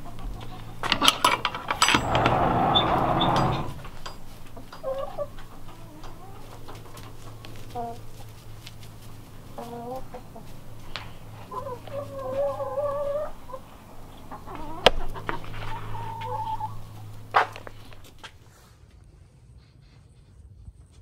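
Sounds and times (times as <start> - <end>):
hens clucking: 0.0 - 18.4.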